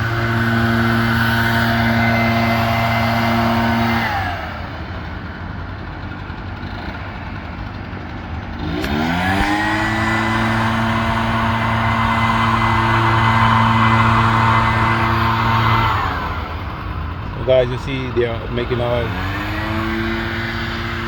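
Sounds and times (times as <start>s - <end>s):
leaf blower engine: 0.0s - 21.0s.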